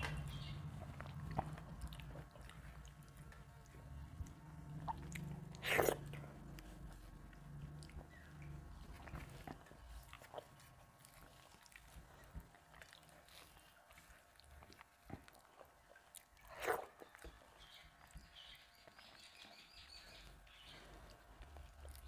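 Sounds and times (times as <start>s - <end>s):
soft chewing: 0.0s - 22.0s.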